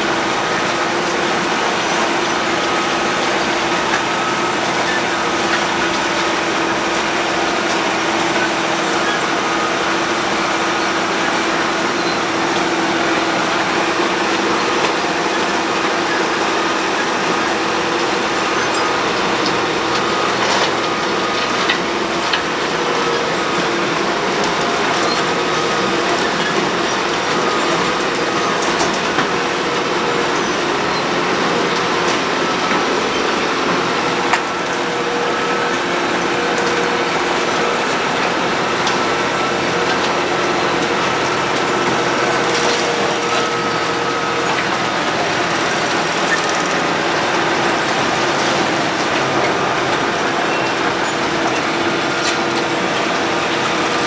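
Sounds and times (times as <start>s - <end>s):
road milling machine running: 0.0s - 54.0s.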